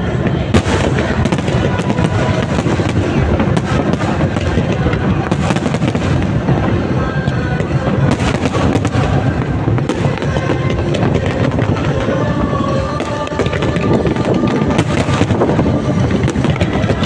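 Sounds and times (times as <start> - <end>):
fireworks pops and crackles: 0.0 - 17.0
music playing: 0.0 - 17.0.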